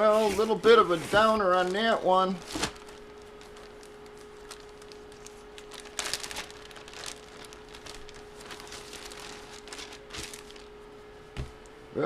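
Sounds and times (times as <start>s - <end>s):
trading cards and packaging rustling: 0.0s - 10.8s
faint steady hum: 0.0s - 12.0s.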